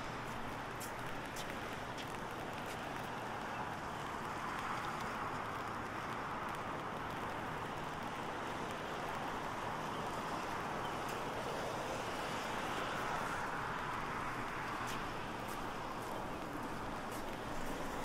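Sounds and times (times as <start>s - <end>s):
drops ticking on an umbrella: 0.0s - 18.0s
light rain hiss: 0.0s - 18.0s.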